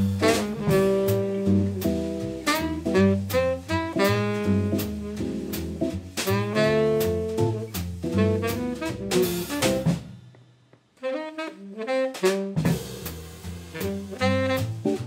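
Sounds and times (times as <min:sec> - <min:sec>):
baritone saxophone: 0:00.0 - 0:09.9, 0:11.0 - 0:12.8, 0:13.7 - 0:15.0
upright bass: 0:00.0 - 0:10.4, 0:12.4 - 0:15.0
drum kit: 0:00.0 - 0:15.0.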